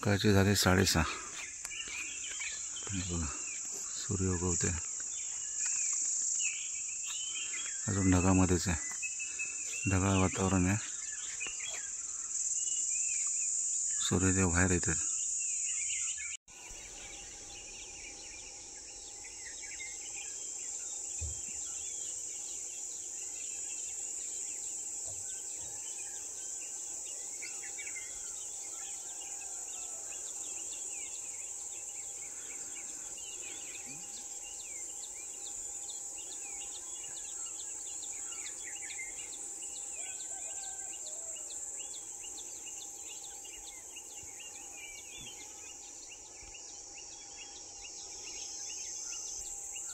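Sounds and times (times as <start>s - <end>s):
birds chirping: 0.0s - 49.9s
insect chorus: 0.0s - 49.9s.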